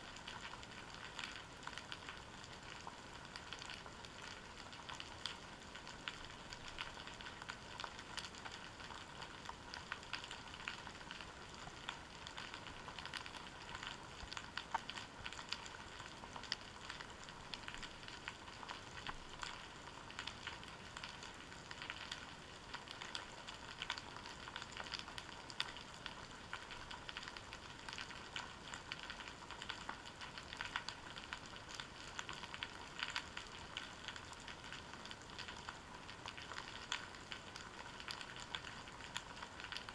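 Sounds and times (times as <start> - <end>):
underwater crackling fizz: 0.0 - 39.9.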